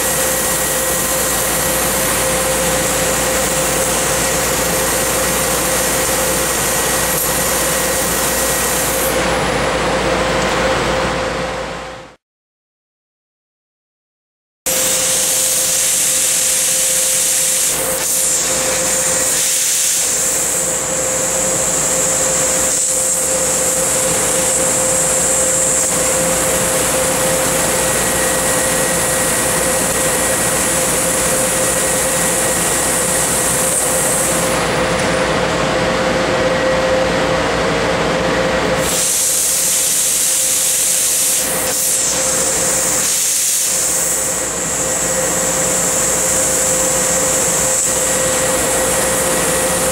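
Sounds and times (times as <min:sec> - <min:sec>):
laser cutter hissing: 0:00.0 - 0:09.5, 0:14.7 - 0:35.5, 0:38.6 - 0:49.9.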